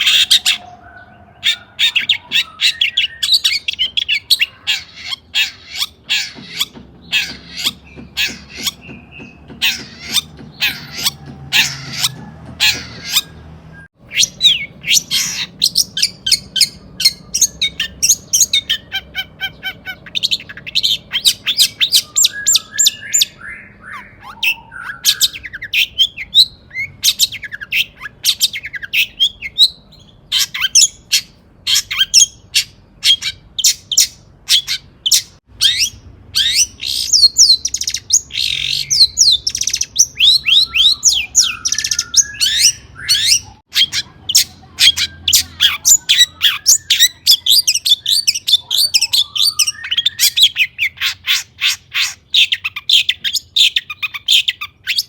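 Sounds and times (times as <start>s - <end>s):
shrike singing: 0.0s - 54.7s.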